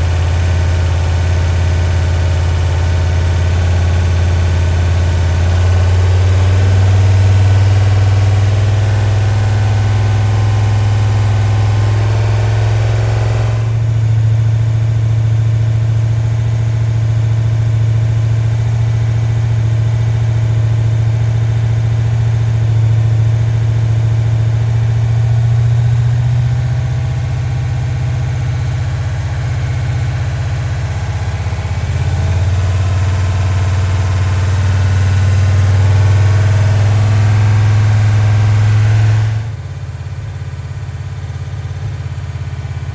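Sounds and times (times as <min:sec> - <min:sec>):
car engine running: 0:00.0 - 0:42.9.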